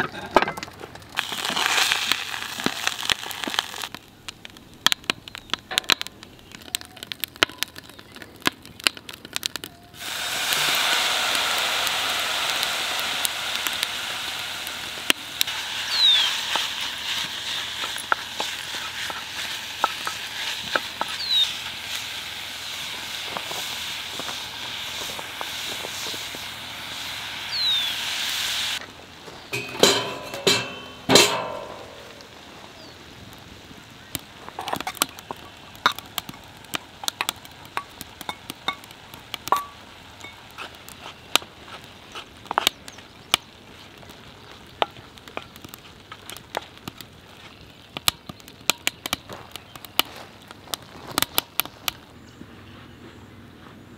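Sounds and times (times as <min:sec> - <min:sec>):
wood fire crackling: 0:00.0 - 0:52.7
sausage sizzling in a pot: 0:01.2 - 0:04.0, 0:08.9 - 0:51.9.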